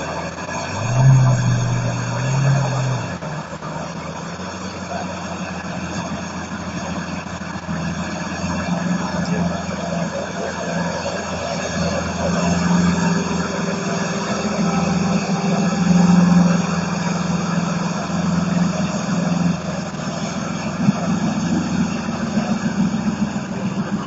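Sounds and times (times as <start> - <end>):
car engine running at low revs: 0.0 - 24.0.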